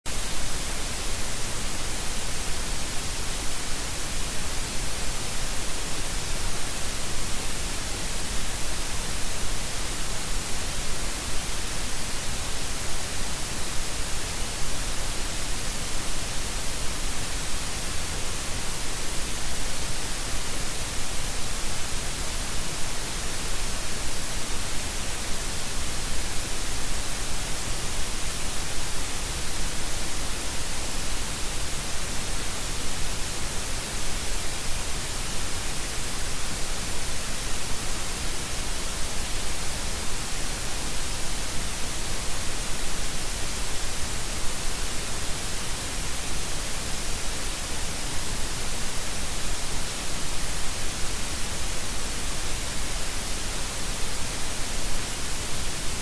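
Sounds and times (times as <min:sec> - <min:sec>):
electrical static hiss: 0:00.1 - 0:56.0.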